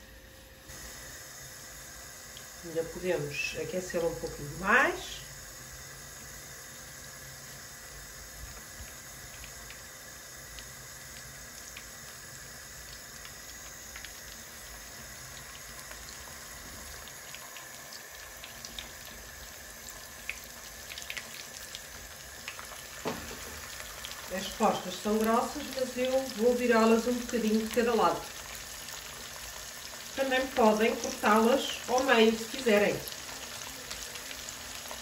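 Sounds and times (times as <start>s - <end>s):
fish frying in oil: 0.7s - 35.0s.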